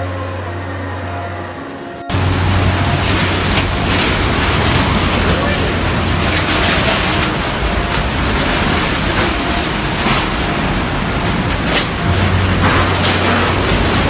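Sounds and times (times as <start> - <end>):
typhoon wind and rain rushing: 2.1 - 14.0.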